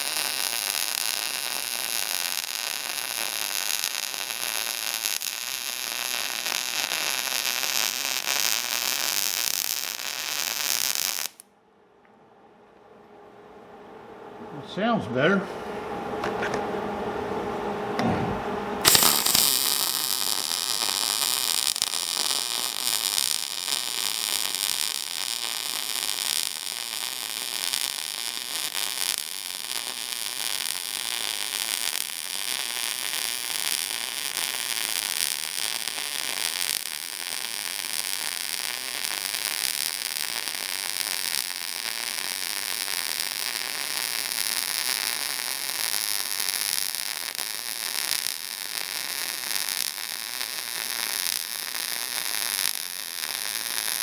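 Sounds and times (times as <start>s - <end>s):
welding arc crackling and hissing: 0.0s - 11.4s, 18.8s - 54.0s.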